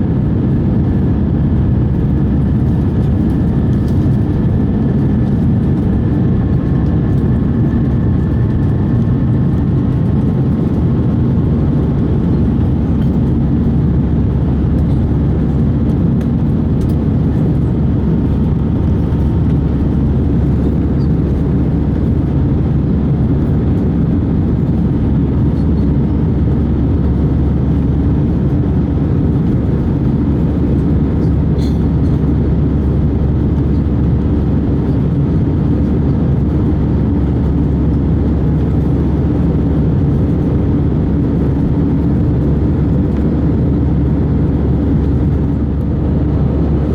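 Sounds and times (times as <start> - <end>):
jet engines and rushing air: 0.0 - 46.9.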